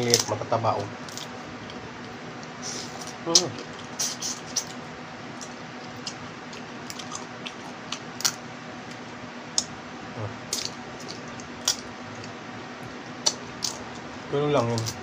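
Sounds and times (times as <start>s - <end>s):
crab shells cracking: 0.0s - 9.8s, 10.4s - 12.4s, 13.1s - 15.0s
faint steady hum: 0.0s - 15.0s.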